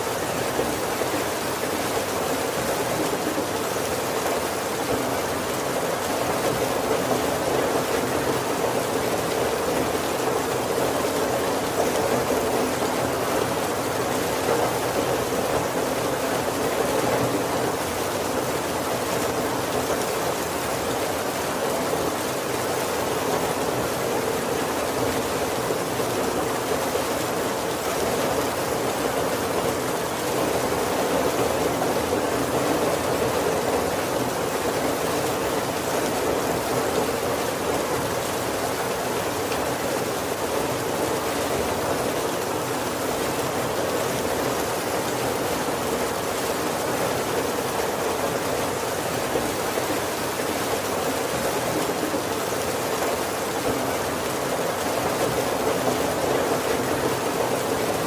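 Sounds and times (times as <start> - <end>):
heavy rain on wooden roof: 0.0 - 58.0.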